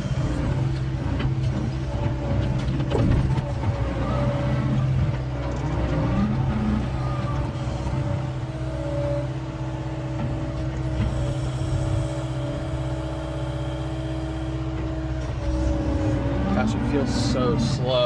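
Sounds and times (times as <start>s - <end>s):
diesel engine under hydraulic load: 0.0s - 18.0s.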